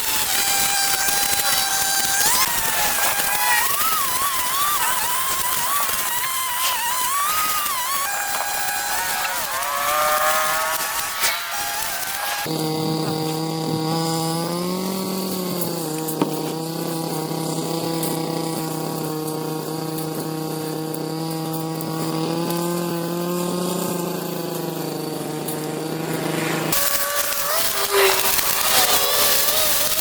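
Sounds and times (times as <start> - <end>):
small garden power tool engine: 0.0 - 30.0.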